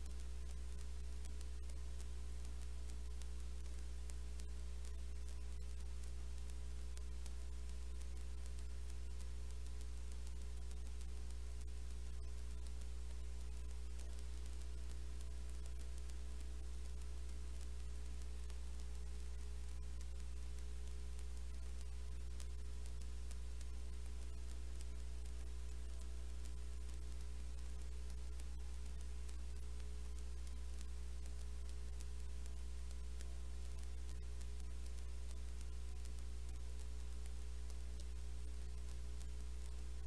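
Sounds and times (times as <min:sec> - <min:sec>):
electrical hum: 0:00.0 - 0:40.0
light crackle: 0:00.0 - 0:40.0.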